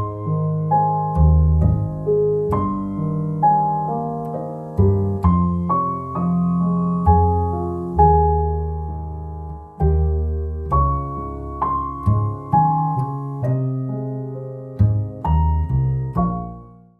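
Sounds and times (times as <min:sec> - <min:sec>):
gentle piano music: 0:00.0 - 0:16.9.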